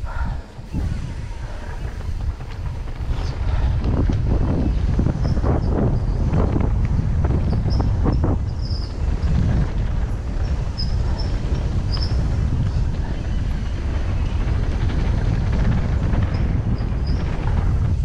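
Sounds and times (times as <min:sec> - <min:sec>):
wind and rolling rumble: 0:00.0 - 0:18.0.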